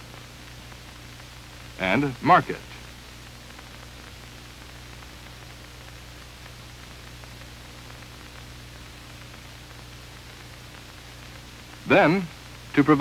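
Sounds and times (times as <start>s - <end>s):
low mains hum: 0.0s - 13.0s
steady hiss: 0.0s - 13.0s.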